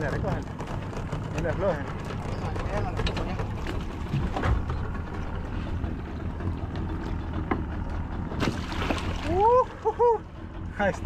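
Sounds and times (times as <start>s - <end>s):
outboard motor idling: 0.0s - 11.0s
water noise: 0.0s - 11.0s
wind: 0.0s - 11.0s.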